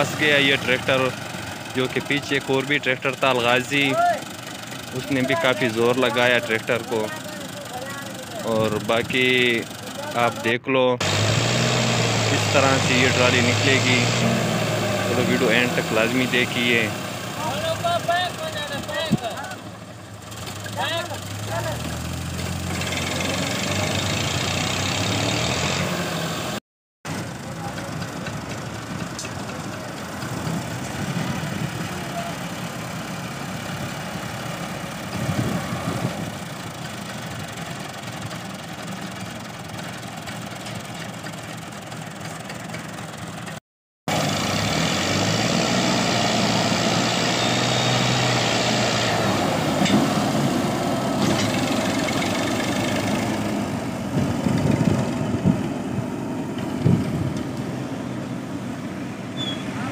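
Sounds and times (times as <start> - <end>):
tractor diesel engine straining: 0.0 - 59.9.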